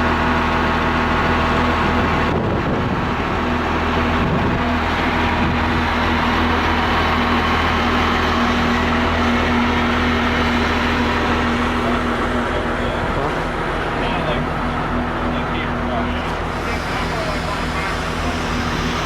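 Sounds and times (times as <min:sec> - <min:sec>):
loader diesel engine running: 0:00.0 - 0:19.0.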